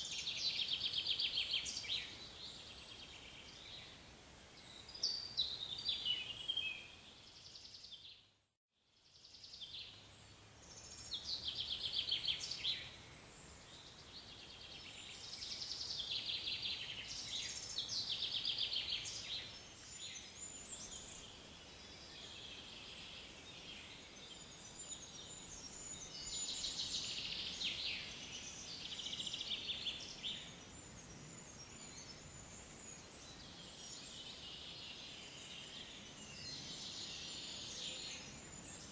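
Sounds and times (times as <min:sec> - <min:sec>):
faint steady hiss: 0:00.0 - 0:08.0, 0:09.0 - 0:38.9
songbirds singing and trilling: 0:00.0 - 0:08.3, 0:09.0 - 0:38.9.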